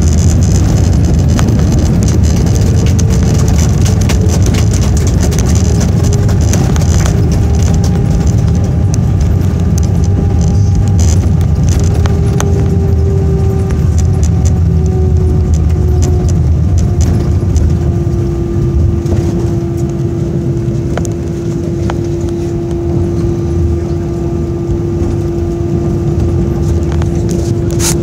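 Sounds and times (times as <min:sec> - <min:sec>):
wheels and airflow rumble: 0:00.0 - 0:28.0
humming tone sliding down: 0:05.2 - 0:28.0.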